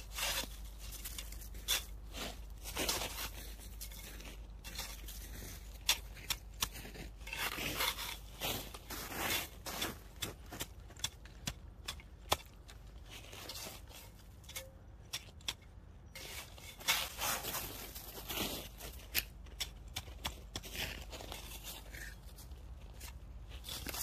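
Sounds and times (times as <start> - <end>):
spade scraping snow: 0.0 - 11.1, 13.0 - 14.6, 16.1 - 19.3, 20.0 - 24.0.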